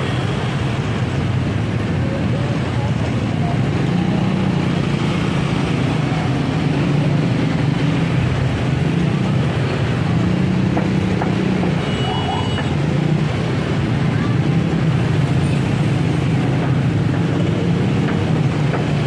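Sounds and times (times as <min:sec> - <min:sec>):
scooter engines droning: 0:00.0 - 0:19.0.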